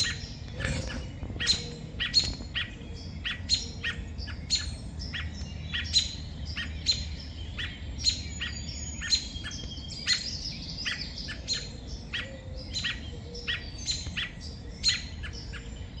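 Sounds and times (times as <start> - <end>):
robin alarm calls: 0.0 - 15.9.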